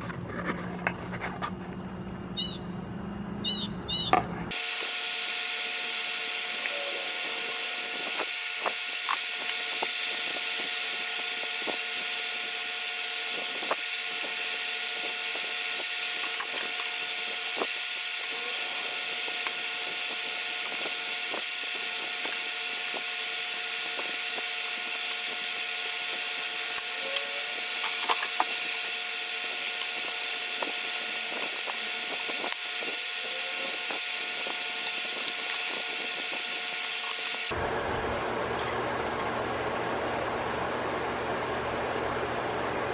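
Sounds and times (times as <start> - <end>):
shop background hum and hiss: 0.0 - 42.9.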